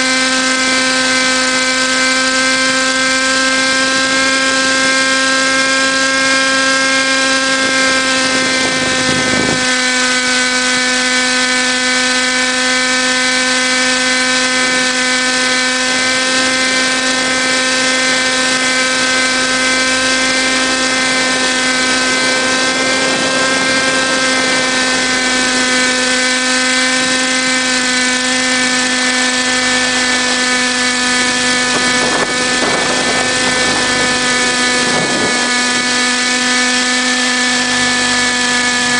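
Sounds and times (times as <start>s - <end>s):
model helicopter rotor whining: 0.0s - 38.9s.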